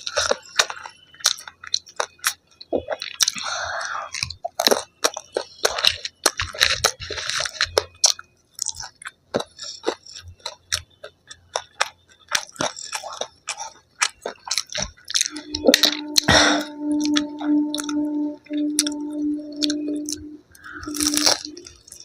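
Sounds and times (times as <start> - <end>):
crunchy chewing: 0.0 - 18.1, 18.8 - 22.0.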